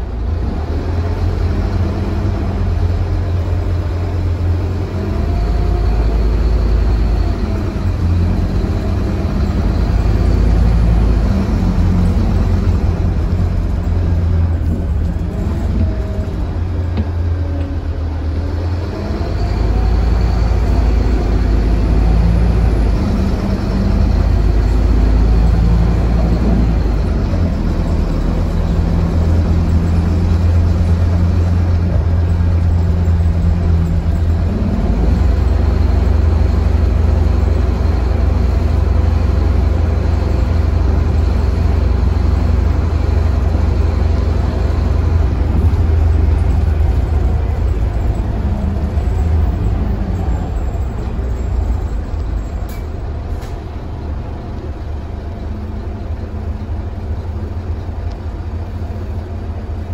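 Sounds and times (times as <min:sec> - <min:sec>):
bus engine drone with whine: 0:00.0 - 0:59.9.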